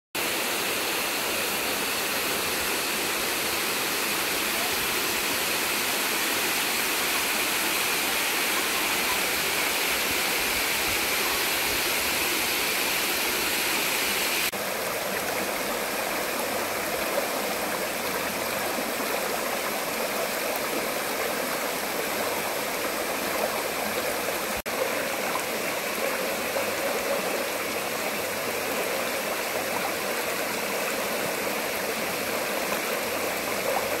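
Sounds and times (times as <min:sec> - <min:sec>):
creek water rushing over rocks: 0:00.2 - 0:34.0.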